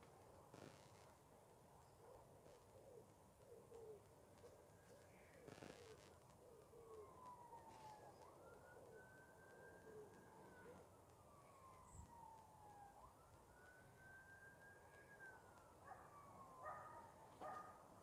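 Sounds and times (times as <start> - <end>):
faint emergency siren wailing: 0.0 - 18.0.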